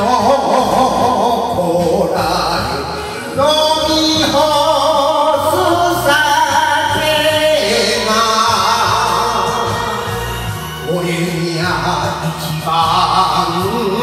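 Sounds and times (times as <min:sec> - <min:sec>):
karaoke backing track: 0:00.0 - 0:14.0
man singing into microphone: 0:00.0 - 0:14.0.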